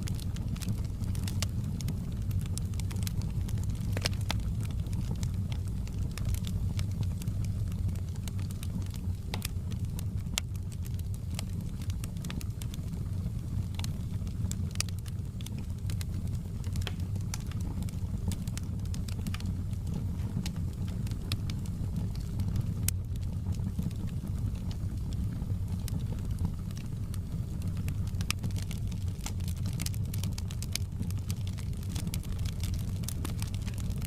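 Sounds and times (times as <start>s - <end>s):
fire crackling in fireplace: 0.0s - 34.0s.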